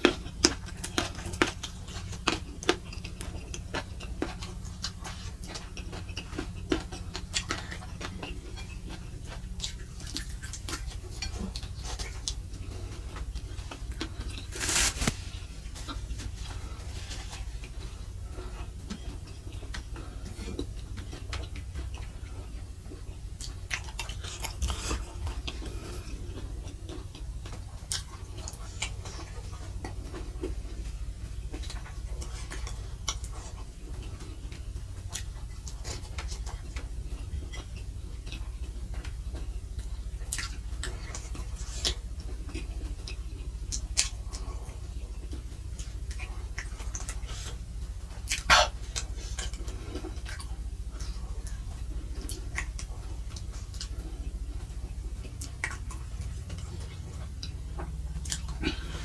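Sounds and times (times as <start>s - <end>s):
person chewing wet mouth clicks: 0.0s - 59.0s
steady low hum: 0.0s - 59.0s.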